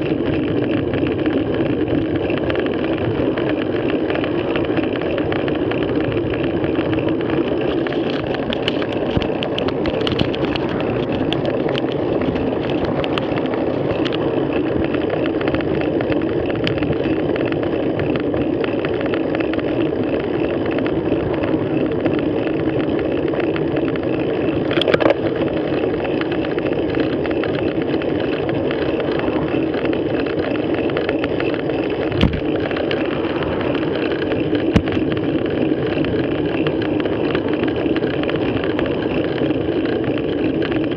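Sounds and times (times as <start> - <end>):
wind noise: 0.0 - 40.9.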